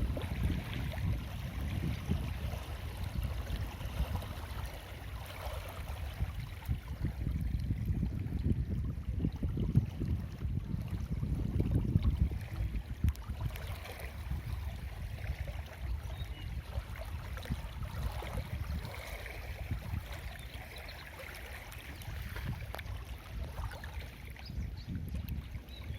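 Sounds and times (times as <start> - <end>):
water flowing and gurgling: 0.0 - 25.9
wind rumbling on microphone: 0.0 - 25.9.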